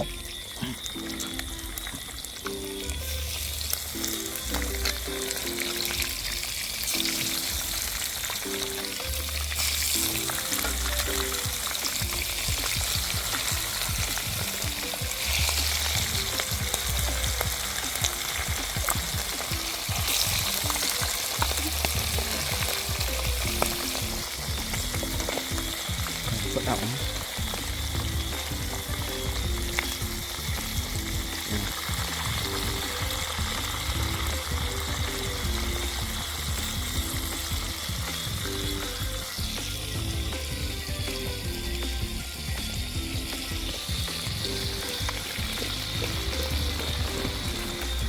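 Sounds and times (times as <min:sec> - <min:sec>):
background music with bass line: 0:00.0 - 0:48.0
fish frying in hot oil: 0:00.0 - 0:48.0.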